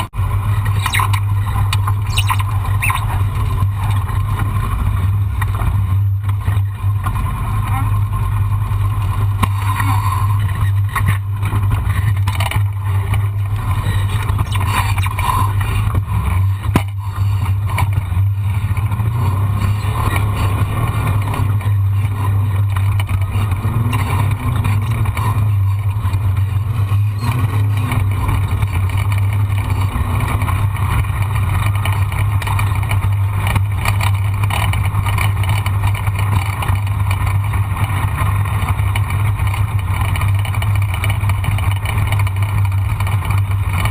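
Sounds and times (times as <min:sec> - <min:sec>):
vehicle engine droning: 0:00.0 - 0:43.9.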